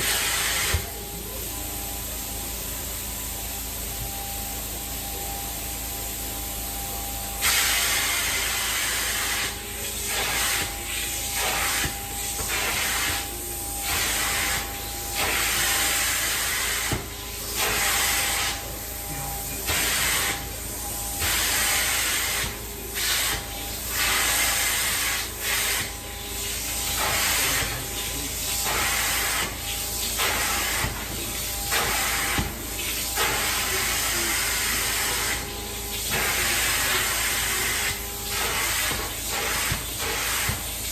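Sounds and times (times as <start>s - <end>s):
cleaning machine humming: 0.0s - 40.9s
cleaning wand spraying and sucking: 7.4s - 40.9s.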